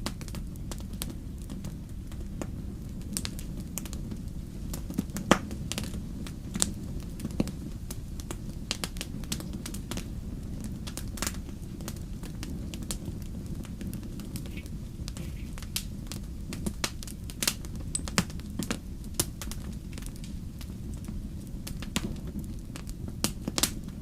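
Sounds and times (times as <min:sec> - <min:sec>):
fireplace fire crackling and popping: 0:00.0 - 0:24.0.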